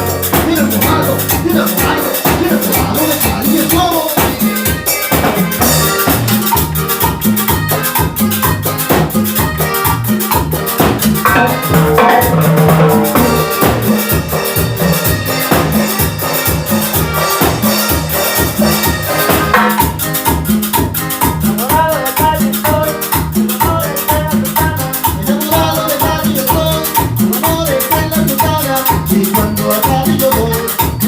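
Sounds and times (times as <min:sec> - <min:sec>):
bass line: 0:00.0 - 0:31.0
drums and hand percussion: 0:00.0 - 0:31.0
melodic instrument lines: 0:00.0 - 0:31.0
salsa band playing: 0:00.0 - 0:31.0.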